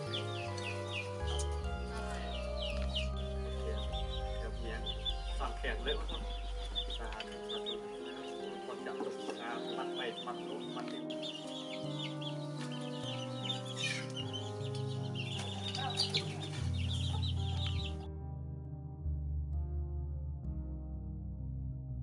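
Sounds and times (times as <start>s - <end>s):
chickens clucking: 0.0s - 18.0s
slow music of long held notes: 0.0s - 22.0s.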